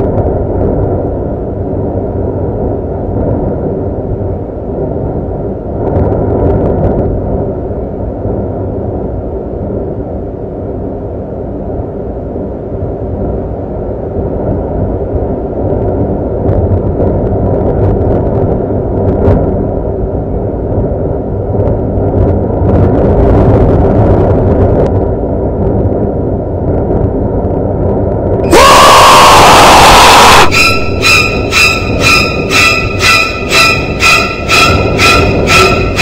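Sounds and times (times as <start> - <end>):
low rumbling drone: 0.0 - 36.0.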